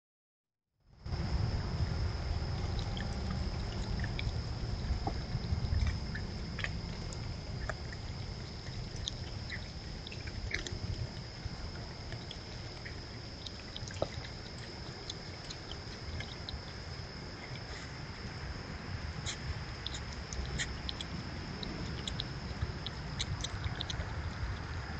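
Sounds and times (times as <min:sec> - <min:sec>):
steady low rumble: 0:01.0 - 0:24.9
animals foraging in birdseed: 0:01.1 - 0:24.9.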